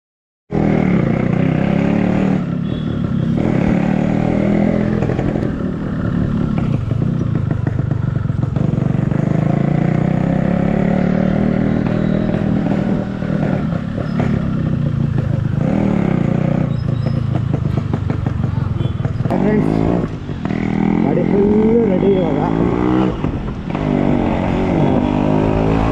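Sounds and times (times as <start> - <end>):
two-stroke motorcycle engine running: 0.8 - 11.0, 12.0 - 23.8.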